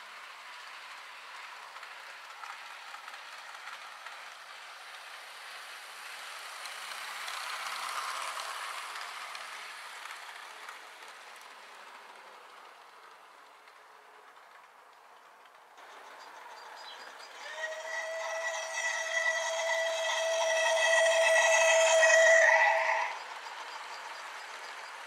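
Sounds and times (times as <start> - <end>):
model train rolling on track: 0.0 - 25.0.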